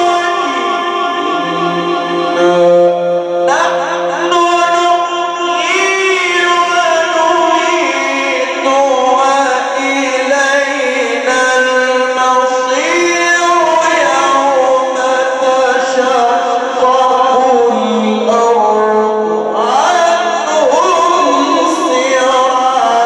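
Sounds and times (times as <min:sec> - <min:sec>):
man reciting melodically: 0:00.0 - 0:23.0.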